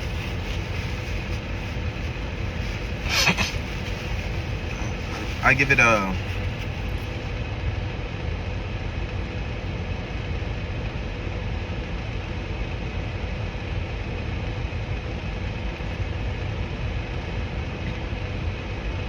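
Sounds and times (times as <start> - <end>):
faint constant hum: 0.0 - 19.0
steady low rumble: 0.0 - 19.0.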